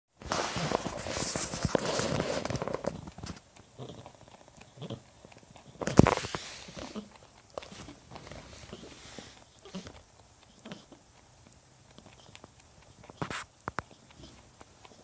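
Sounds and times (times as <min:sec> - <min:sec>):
rustling: 0:00.2 - 0:15.0
rabbit wheezing breaths: 0:00.4 - 0:15.0.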